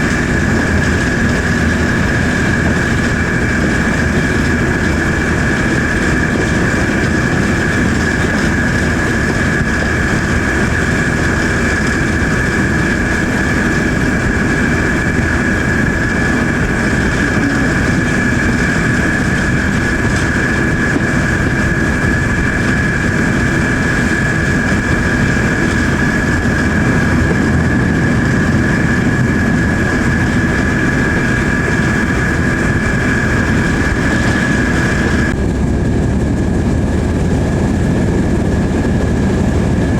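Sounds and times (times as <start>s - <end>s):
high-pitched whine: 0.0s - 36.0s
diesel locomotive engine drone: 0.0s - 39.9s.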